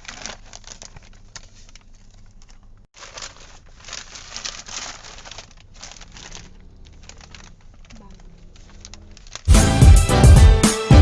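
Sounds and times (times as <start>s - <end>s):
wrapping paper crinkling and rustling: 0.0s - 9.5s.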